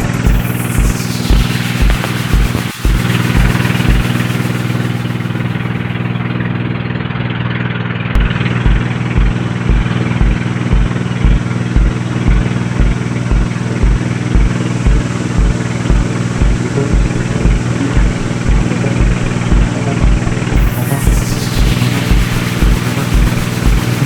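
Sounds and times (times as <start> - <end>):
low repeating thump: 0.1 - 6.1, 8.2 - 24.0.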